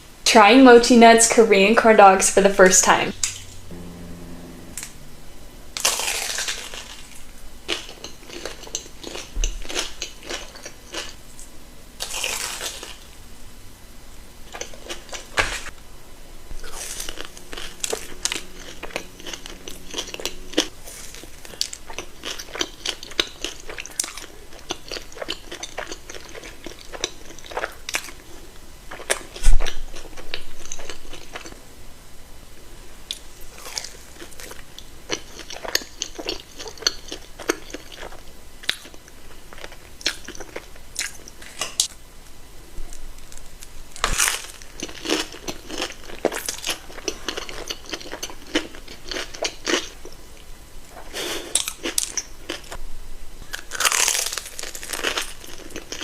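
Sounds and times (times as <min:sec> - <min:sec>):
crunching and chewing: 0:05.8 - 0:13.1, 0:14.4 - 0:15.8, 0:16.6 - 0:31.6, 0:33.1 - 0:42.0, 0:42.9 - 0:52.8, 0:53.4 - 0:56.0.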